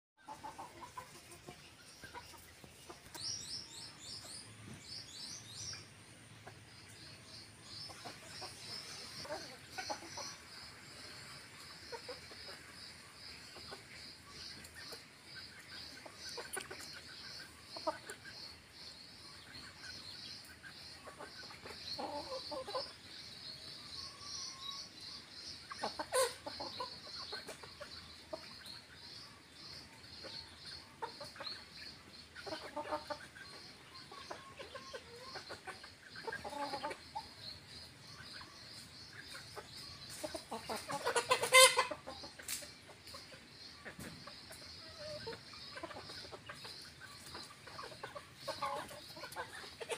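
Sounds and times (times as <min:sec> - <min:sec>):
hens clucking: 0:00.2 - 0:49.9.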